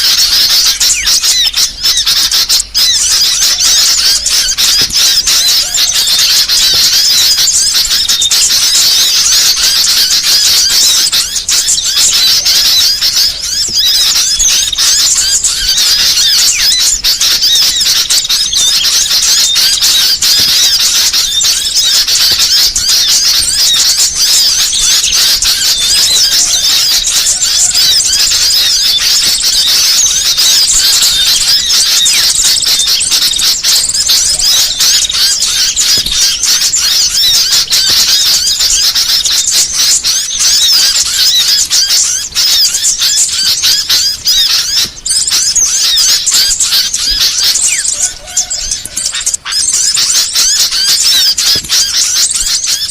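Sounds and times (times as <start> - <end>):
songbirds chirping and twittering: 0.0 - 52.9.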